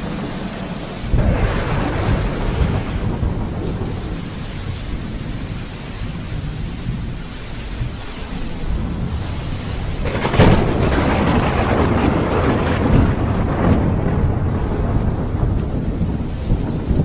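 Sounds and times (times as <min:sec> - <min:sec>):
rain falling: 0:00.0 - 0:17.0
thunder rolling: 0:00.0 - 0:17.0.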